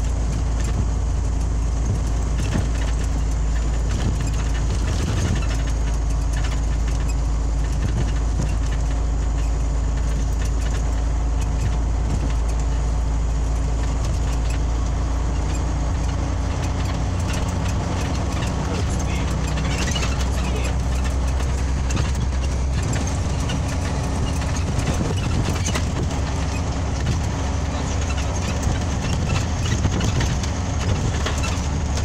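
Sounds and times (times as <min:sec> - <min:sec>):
bus engine drone: 0:00.0 - 0:32.0
road noise: 0:00.0 - 0:32.0
small ticks and rattles: 0:00.0 - 0:32.0.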